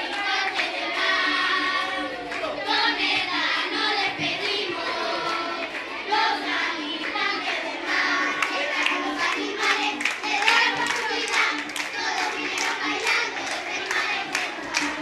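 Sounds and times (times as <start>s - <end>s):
children singing in unison: 0.0s - 15.0s
hand clapping: 0.0s - 15.0s.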